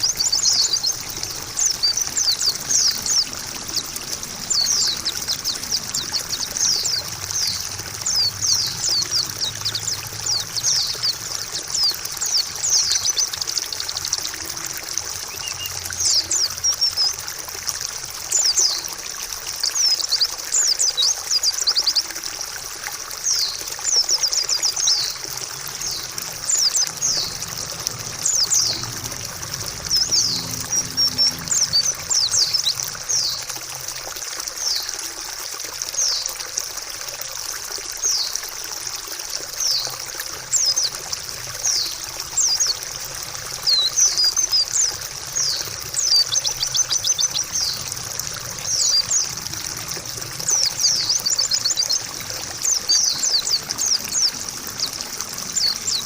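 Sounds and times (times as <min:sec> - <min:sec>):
trickle of running water: 0:00.0 - 0:56.0.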